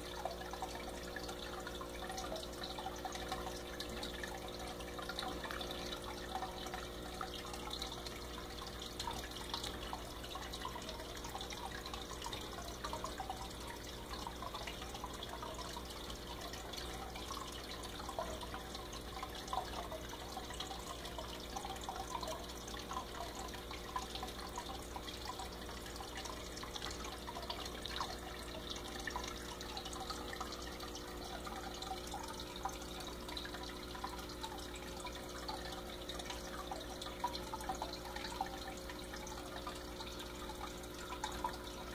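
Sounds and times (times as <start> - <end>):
low pump hum: 0.0 - 41.9
water trickling and bubbling: 0.0 - 41.9.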